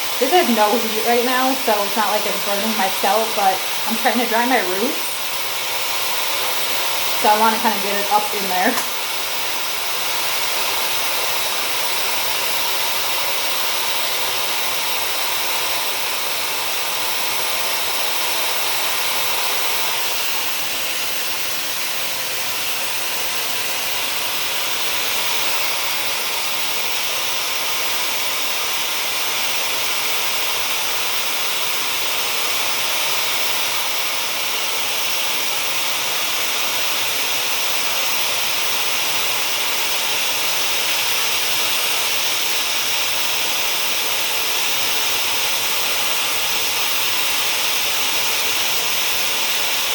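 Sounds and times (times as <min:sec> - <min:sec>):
hair dryer blowing: 0:00.0 - 0:49.9.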